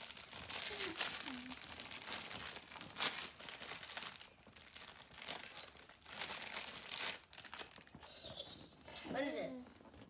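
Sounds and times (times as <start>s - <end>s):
paper crinkling and tearing: 0.0s - 8.1s.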